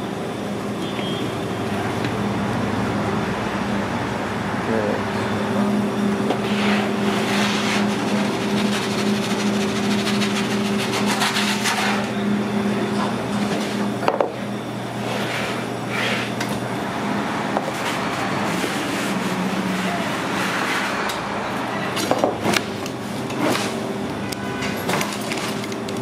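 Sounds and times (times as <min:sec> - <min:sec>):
kitchen equipment hum and rush: 0:00.0 - 0:26.0.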